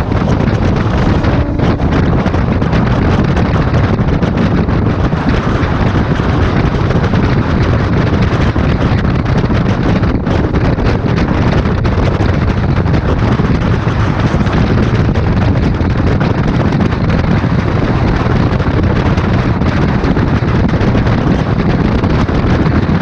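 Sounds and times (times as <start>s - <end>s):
train wheels rumbling on rails: 0.0s - 23.0s
wind buffeting microphone: 0.0s - 23.0s.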